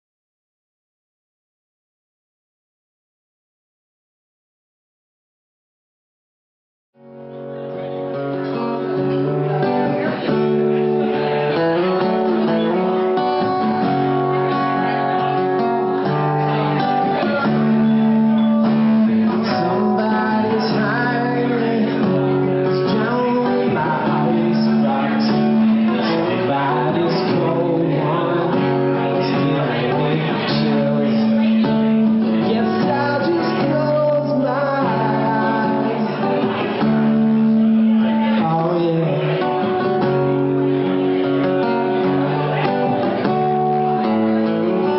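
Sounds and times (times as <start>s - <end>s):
acoustic guitar chords and picking: 7.0s - 44.9s.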